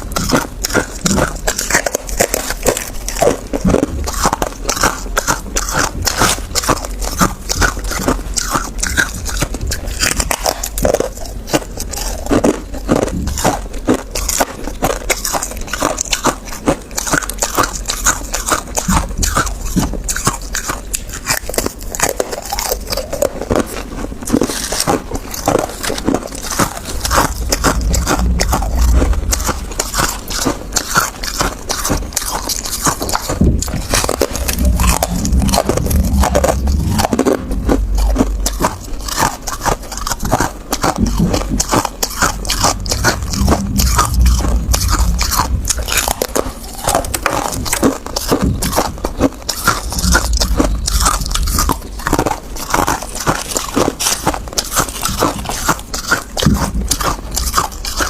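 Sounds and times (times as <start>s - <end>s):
person chewing ice crunching: 0.0s - 58.0s.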